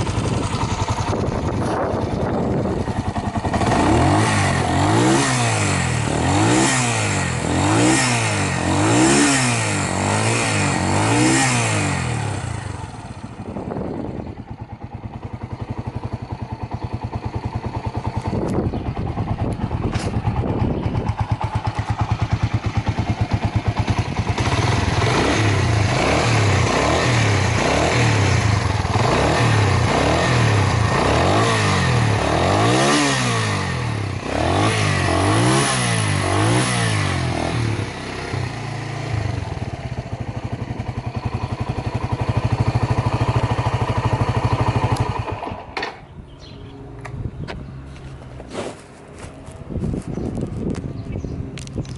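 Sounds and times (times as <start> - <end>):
motorcycle engine revving and idling: 0.0 - 51.9.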